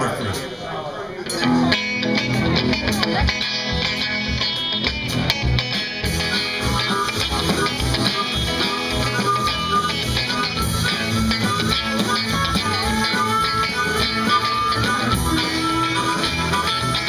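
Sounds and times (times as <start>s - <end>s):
electric guitar: 1.2s - 17.0s
drum kit beat: 1.4s - 17.0s
amplified harmonica: 1.8s - 17.0s.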